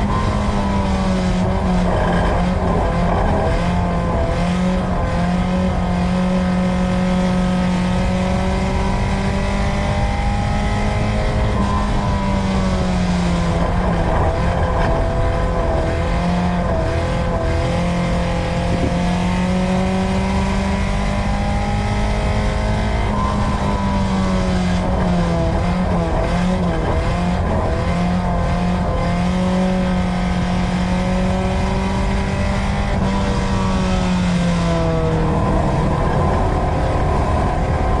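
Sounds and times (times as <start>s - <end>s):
race car engine running: 0.0s - 38.0s
tyre and chassis noise: 0.0s - 38.0s.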